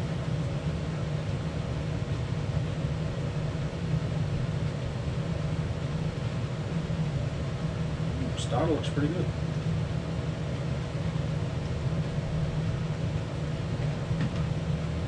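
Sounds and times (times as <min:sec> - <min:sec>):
low mechanical hum with hiss: 0:00.0 - 0:15.0.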